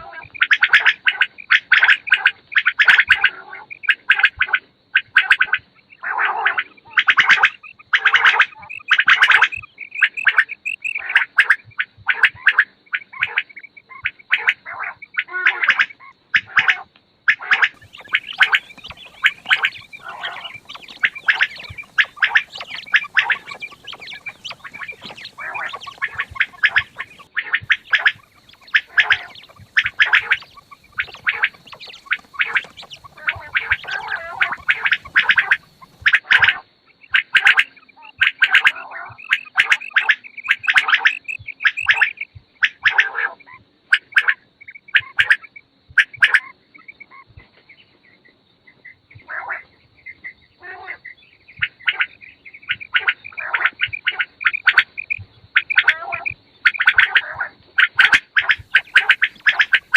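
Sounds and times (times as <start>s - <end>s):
quails calling: 0.0s - 59.9s.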